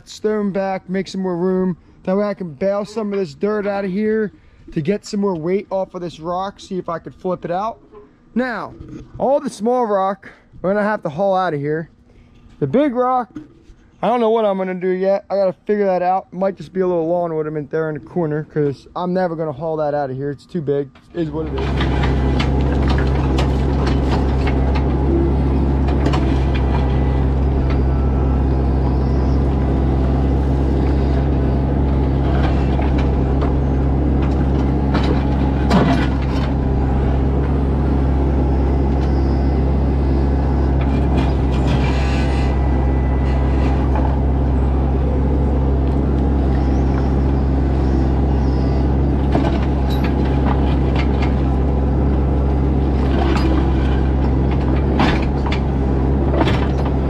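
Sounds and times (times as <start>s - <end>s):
excavator diesel engine: 0.0s - 10.0s, 12.6s - 57.0s.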